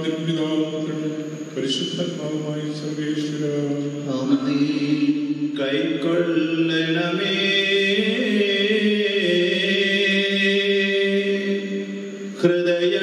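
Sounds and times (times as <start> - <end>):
men chanting a prayer: 0.0 - 13.0.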